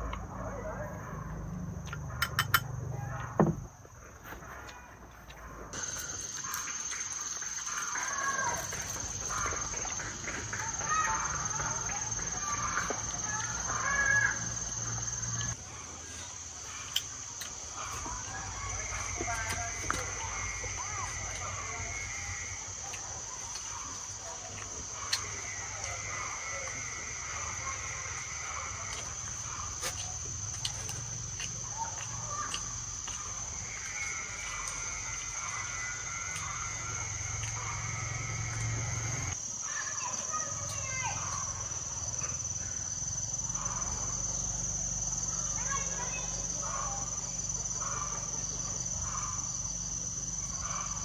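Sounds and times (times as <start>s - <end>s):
high-pitched insect drone: 5.7s - 51.0s.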